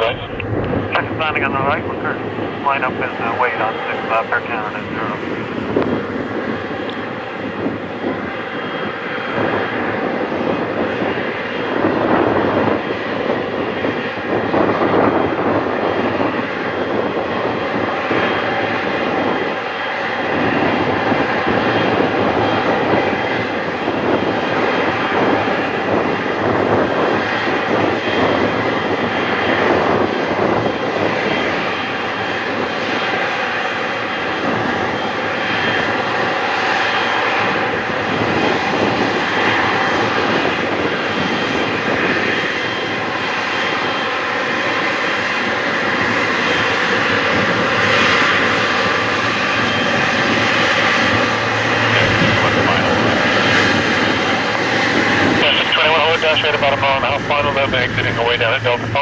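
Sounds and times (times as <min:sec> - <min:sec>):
jet engines rumbling with whine: 0:00.0 - 0:59.0.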